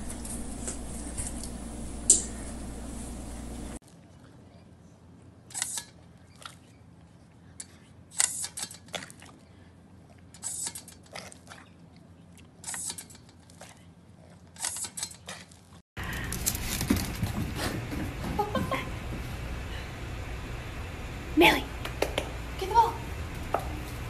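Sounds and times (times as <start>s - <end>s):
indoor room noise: 0.0s - 24.0s.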